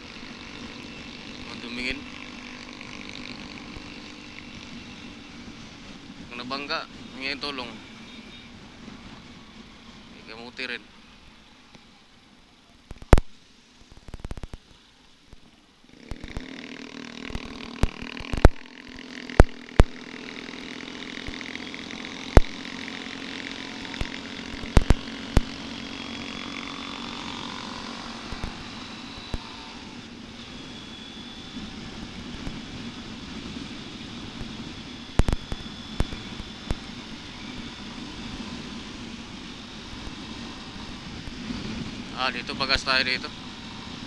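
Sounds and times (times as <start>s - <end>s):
motorcycle engine running: 0.0s - 11.1s, 15.3s - 44.0s
road noise: 0.0s - 44.0s.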